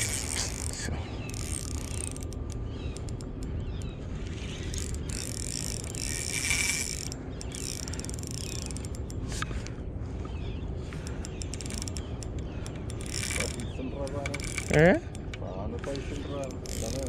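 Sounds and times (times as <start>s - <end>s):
fishing reel ratcheting clicks: 0.0s - 9.7s, 11.0s - 17.0s.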